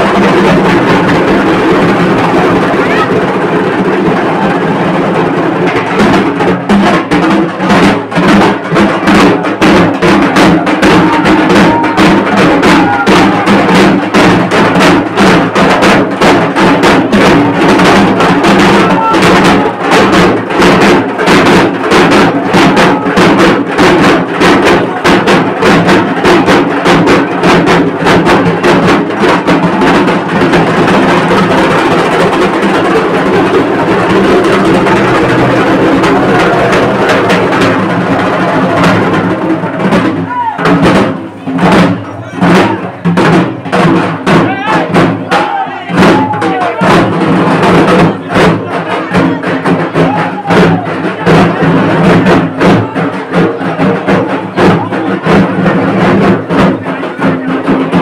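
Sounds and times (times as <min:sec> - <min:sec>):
drums beaten in fast rhythm: 0:00.0 - 0:58.0.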